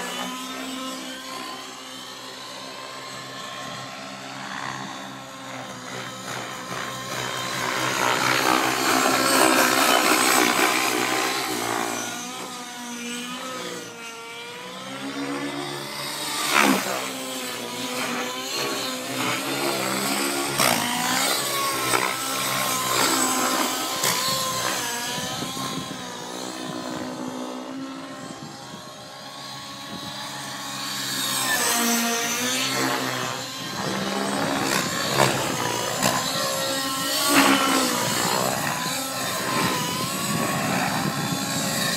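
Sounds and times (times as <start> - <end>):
rc helicopter engine and rotor: 0.0 - 41.9.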